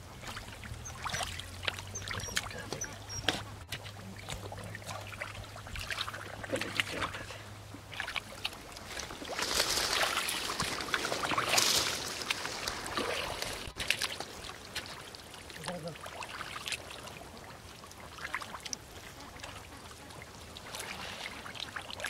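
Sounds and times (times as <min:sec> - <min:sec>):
sloshing in muddy water: 0:00.0 - 0:22.0.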